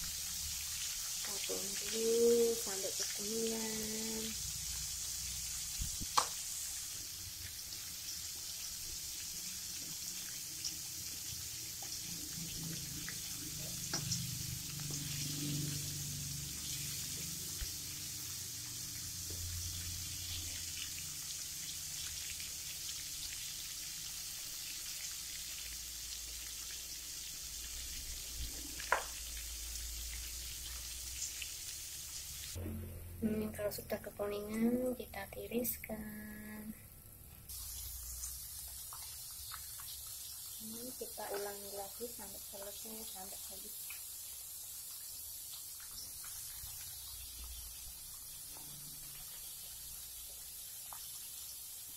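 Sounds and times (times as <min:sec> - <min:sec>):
shrimp sizzling in hot oil: 0:00.0 - 0:32.6, 0:37.5 - 0:51.9.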